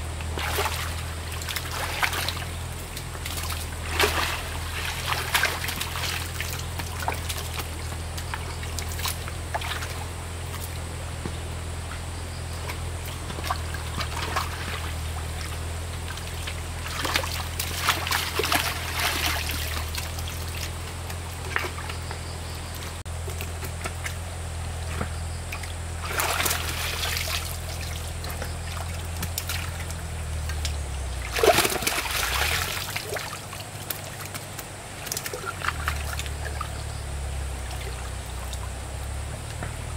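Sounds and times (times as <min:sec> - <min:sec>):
low motor hum: 0:00.0 - 0:39.9
water trickling and splashing: 0:00.1 - 0:10.9, 0:12.5 - 0:39.9.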